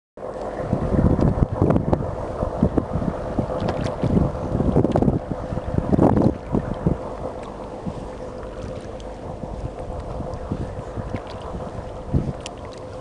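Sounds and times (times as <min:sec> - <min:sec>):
faint steady hum: 0:00.2 - 0:13.0
water splashing around kayak: 0:00.2 - 0:13.0
wind buffeting microphone: 0:00.2 - 0:13.0.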